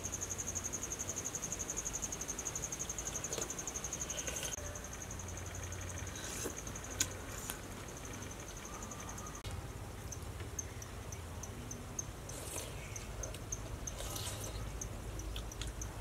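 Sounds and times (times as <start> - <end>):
insects chirping in a trill: 0.0 - 16.0
low steady hum: 0.0 - 16.0.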